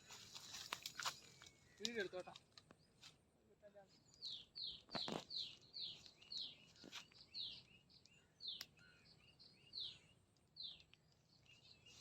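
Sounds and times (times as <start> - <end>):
bird chirping: 0.2 - 3.2, 3.8 - 12.0.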